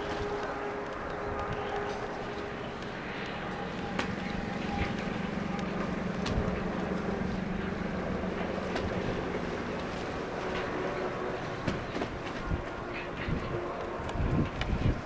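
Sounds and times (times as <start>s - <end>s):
low steady hum: 0.0s - 15.0s
wind on microphone: 0.0s - 15.0s.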